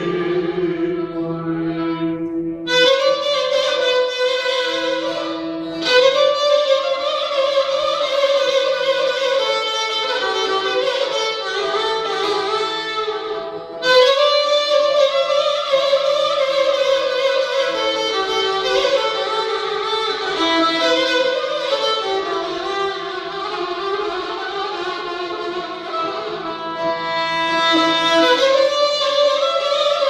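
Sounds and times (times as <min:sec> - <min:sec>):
bowed string instrument melody: 0:00.0 - 0:30.0.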